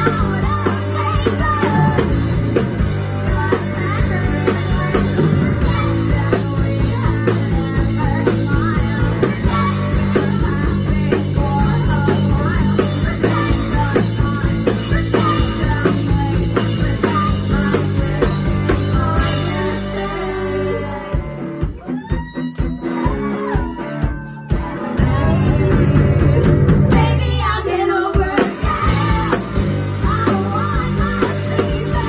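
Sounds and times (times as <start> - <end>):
woman singing: 0.0 - 21.4, 24.2 - 32.0
drums: 0.0 - 32.0
electric guitar: 0.0 - 32.0.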